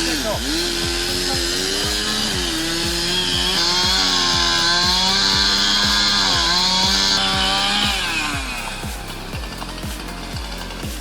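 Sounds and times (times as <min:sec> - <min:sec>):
chainsaw cutting at high speed: 0:00.0 - 0:11.0.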